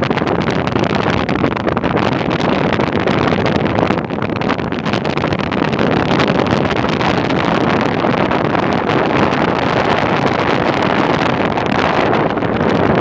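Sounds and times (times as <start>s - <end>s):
ship running noise: 0.0s - 13.0s
wind rushing across microphone: 0.0s - 13.0s.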